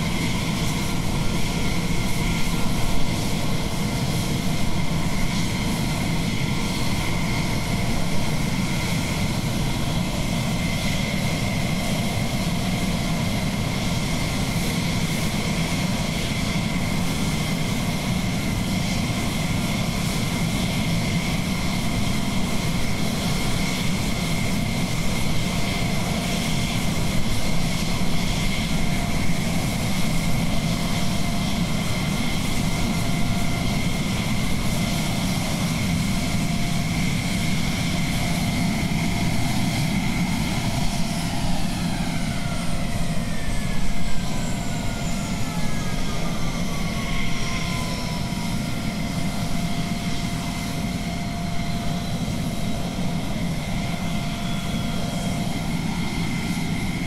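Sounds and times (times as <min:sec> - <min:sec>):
jet engine idling: 0:00.0 - 0:57.0.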